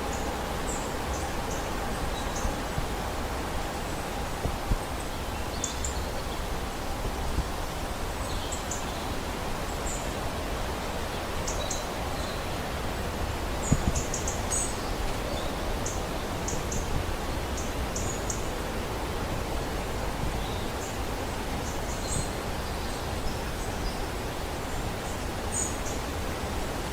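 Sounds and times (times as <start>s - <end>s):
steady background hiss: 0.0s - 26.9s.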